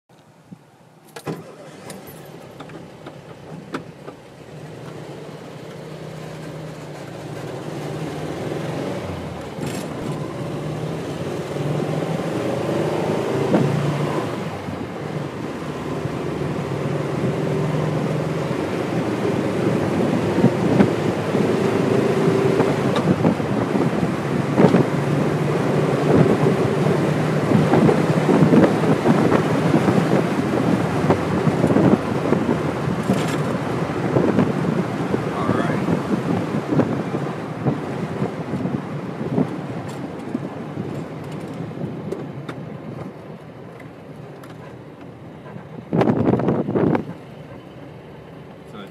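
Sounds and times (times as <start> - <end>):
car engine accelerating through gears: 1.2 - 48.9
wind buffeting: 6.9 - 43.5, 44.8 - 48.5.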